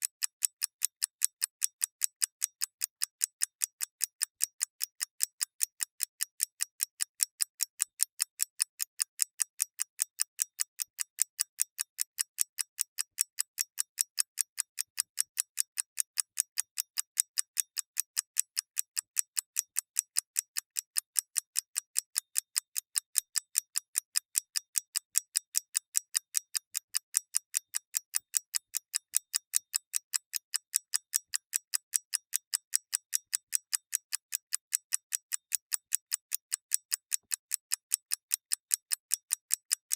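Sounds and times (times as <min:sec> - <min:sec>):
mechanical clock ticking: 0:00.0 - 0:39.9.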